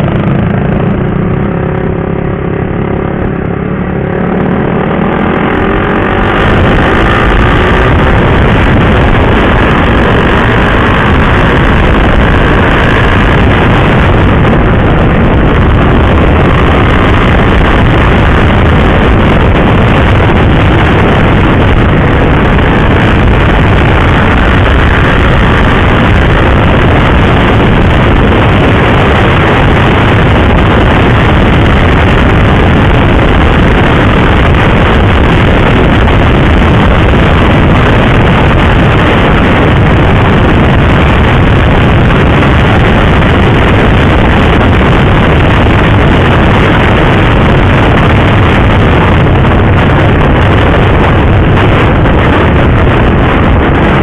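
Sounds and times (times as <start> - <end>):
motorcycle engine: 0.0 - 54.0
wind rush over microphone: 0.0 - 54.0.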